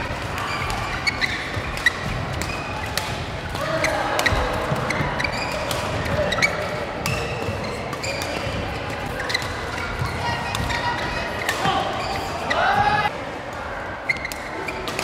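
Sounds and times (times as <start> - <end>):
shoes squeaking on court: 0.0 - 3.0, 3.6 - 13.0, 14.0 - 15.0
rackets hitting shuttlecock: 0.1 - 12.8.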